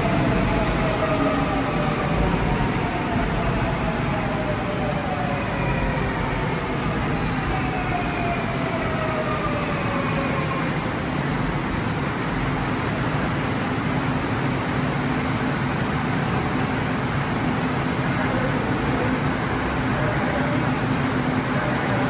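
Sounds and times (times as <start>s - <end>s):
standing train hum and rumble: 0.0s - 22.0s.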